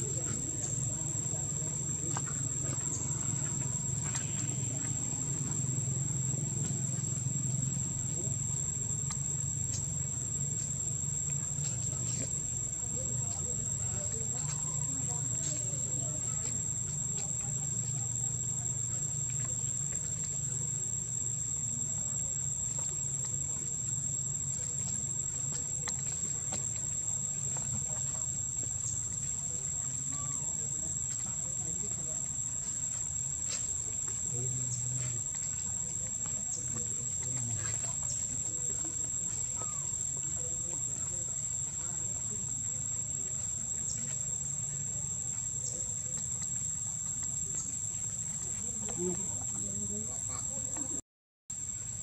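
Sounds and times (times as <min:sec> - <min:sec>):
insects droning high whine: 0:00.0 - 0:52.0.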